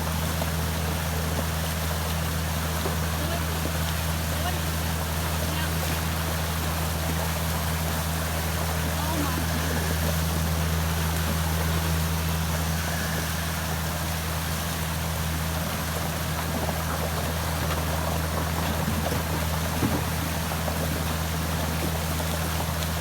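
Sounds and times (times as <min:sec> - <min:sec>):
creek water rushing: 0:00.0 - 0:23.0
engine humming: 0:00.0 - 0:23.0.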